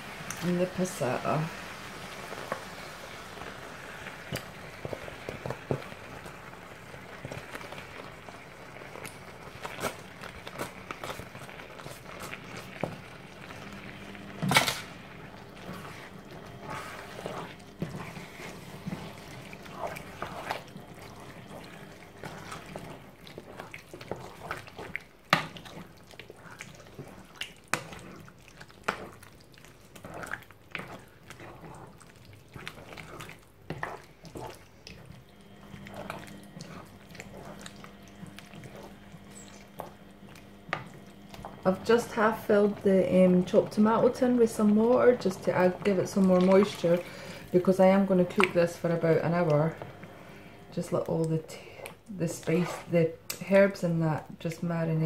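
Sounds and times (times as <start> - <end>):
sauce squelching and slopping: 0.1 - 53.6.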